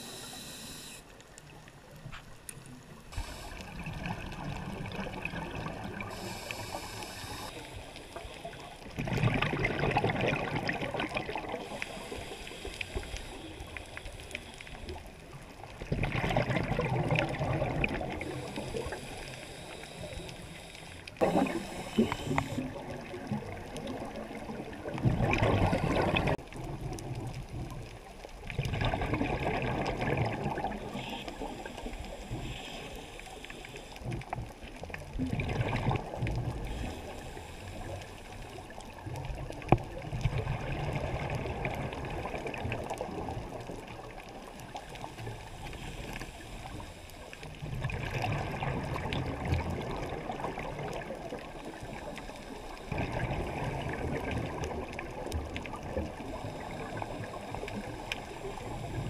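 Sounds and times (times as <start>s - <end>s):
scuba regulator bubbles gurgling: 0.0s - 59.0s.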